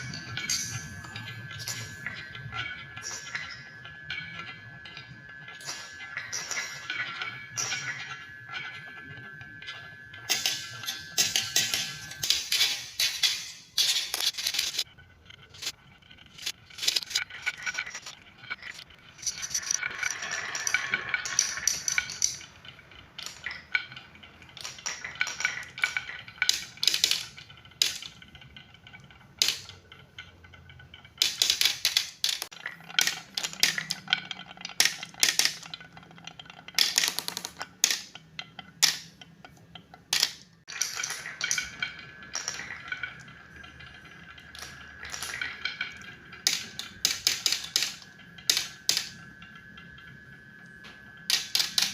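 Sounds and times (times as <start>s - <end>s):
marbles clattering down a track: 0.0s - 51.9s.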